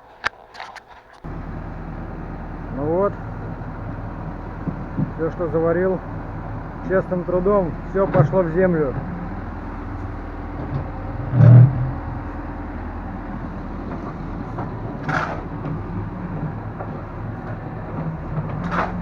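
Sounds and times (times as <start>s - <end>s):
engine running: 1.2s - 19.0s.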